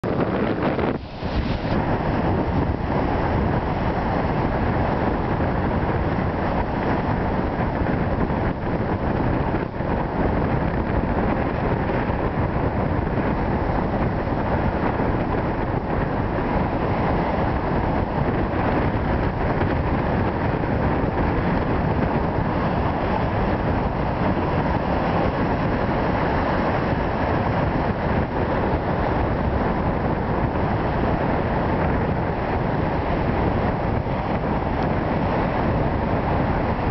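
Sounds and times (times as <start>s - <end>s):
storm waves breaking on rocks: 0.0s - 36.9s
strong wind on microphone: 0.0s - 36.9s.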